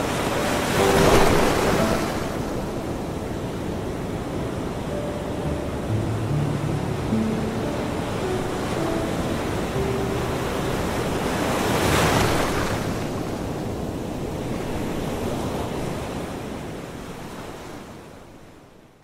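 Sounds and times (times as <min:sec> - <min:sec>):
ocean surf breaking on beach: 0:00.0 - 0:18.2.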